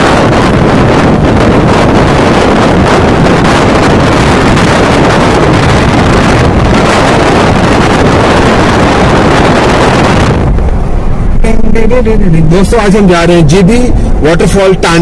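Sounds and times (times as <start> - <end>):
road rush of moving vehicle: 0.0 - 15.0
wind buffeting microphone: 0.0 - 15.0.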